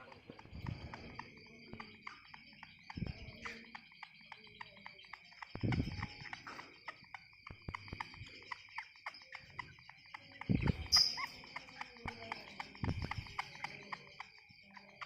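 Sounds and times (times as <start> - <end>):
young bird chirping: 0.0 - 15.0.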